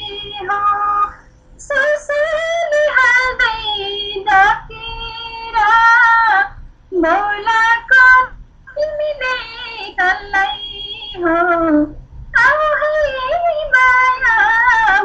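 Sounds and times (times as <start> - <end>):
woman singing in a high voice: 0.0 - 15.0.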